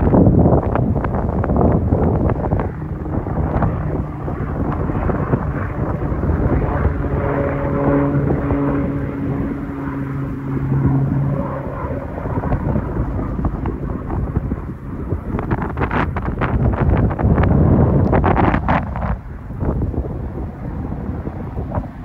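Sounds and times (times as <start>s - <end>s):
propeller plane droning past: 0.0s - 22.0s
wind rumble on microphone: 0.0s - 22.0s.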